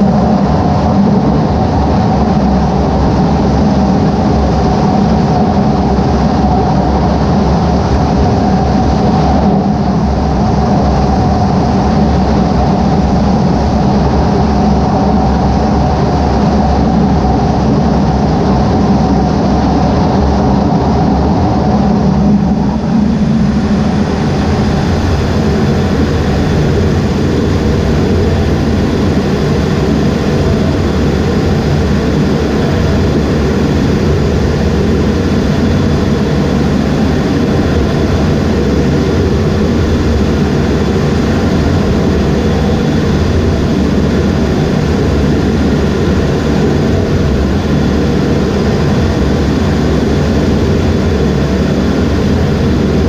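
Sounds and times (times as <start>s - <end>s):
jet engines at high power: 0.0s - 53.0s.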